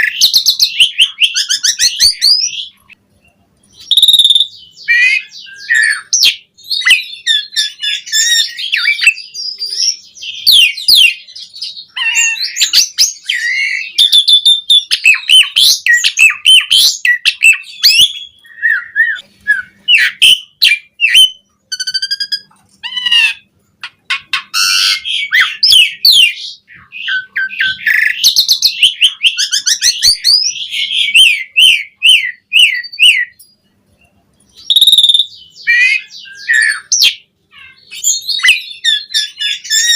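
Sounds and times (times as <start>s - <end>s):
starling singing: 0.0s - 2.9s, 3.7s - 33.6s, 34.4s - 39.9s.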